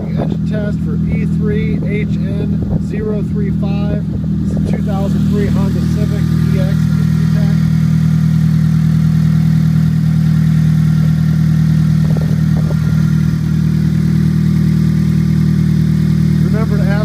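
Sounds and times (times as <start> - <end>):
throaty car engine idling: 0.0 - 17.0.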